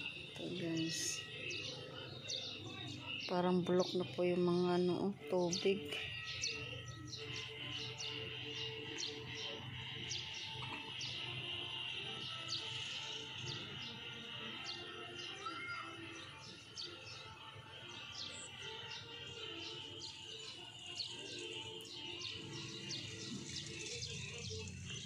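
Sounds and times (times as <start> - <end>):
birds chirping: 0.0 - 25.0
outdoor background noise: 0.0 - 25.0.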